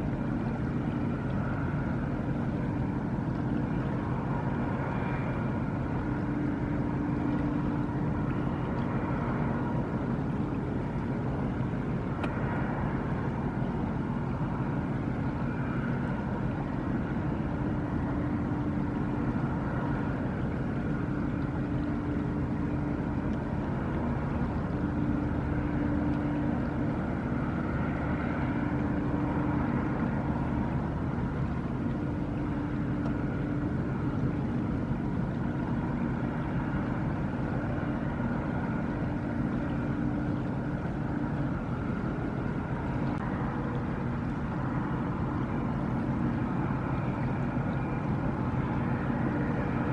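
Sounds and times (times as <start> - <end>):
low machinery hum: 0.0 - 49.9.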